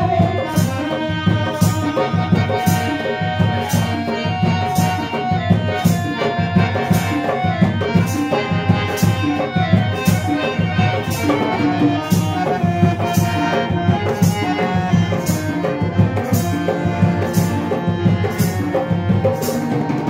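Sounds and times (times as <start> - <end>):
drum rhythm: 0.0 - 20.0
harmonium sustained notes: 0.0 - 20.0.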